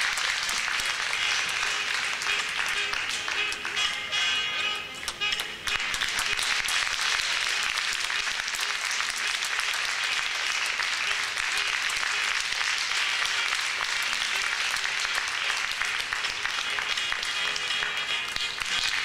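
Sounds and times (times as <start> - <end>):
audience applauding: 0.0 - 4.2, 5.0 - 19.0
faint music: 0.0 - 19.0.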